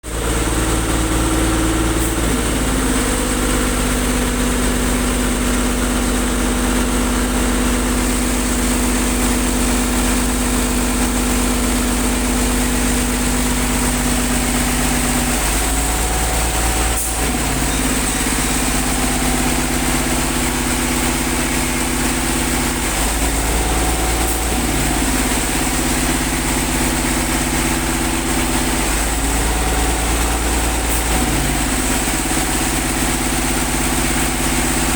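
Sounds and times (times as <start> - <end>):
air compressor engine running: 0.1 - 34.9.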